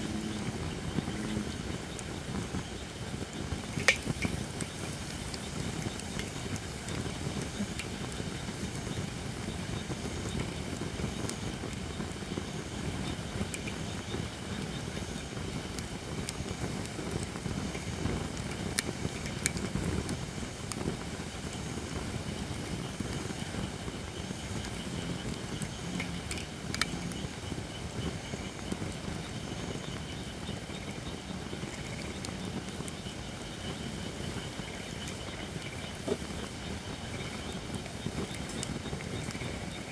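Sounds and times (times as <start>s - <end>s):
campfire flame rushing: 0.0s - 39.9s
fire popping and crackling: 0.0s - 39.9s.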